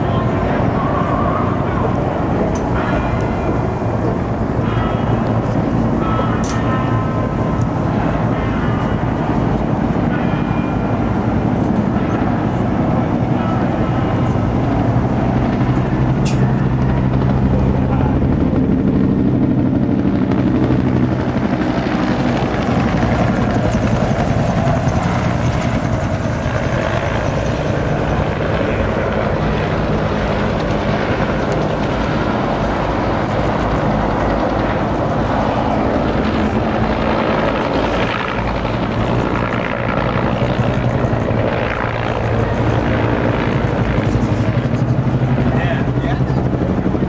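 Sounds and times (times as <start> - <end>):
helicopter rotors chopping: 0.0 - 47.0.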